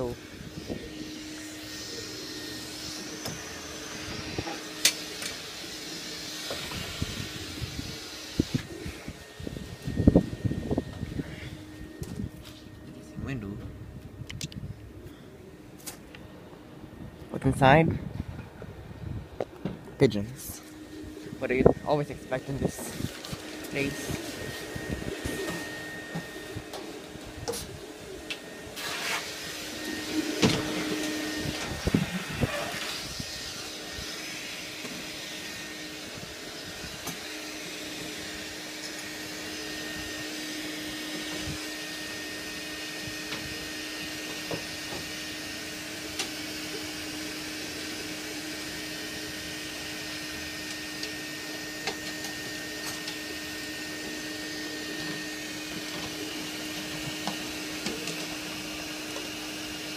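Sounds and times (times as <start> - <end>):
electric motor humming and whining: 0.0 - 59.9.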